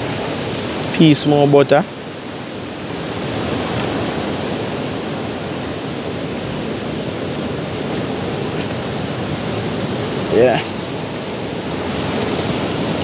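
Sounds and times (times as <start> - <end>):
moving water: 0.0 - 13.0
wind: 0.0 - 13.0.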